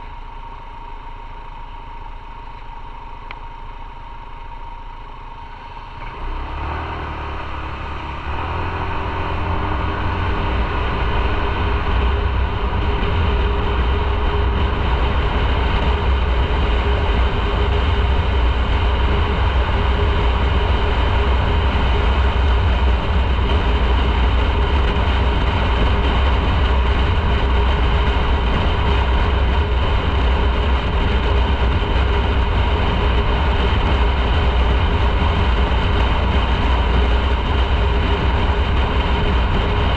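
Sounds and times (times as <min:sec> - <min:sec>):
motorcycle engine running: 0:00.0 - 0:39.9
wind rumble: 0:05.4 - 0:39.9.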